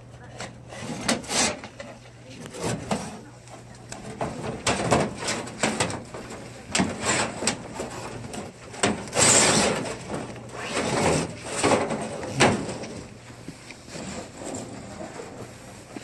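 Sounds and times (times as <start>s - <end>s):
scraping: 0.3s - 16.0s.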